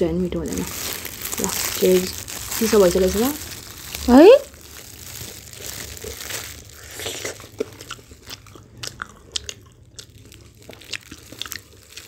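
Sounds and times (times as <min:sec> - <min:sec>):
chicken wings crunching: 0:00.5 - 0:12.0.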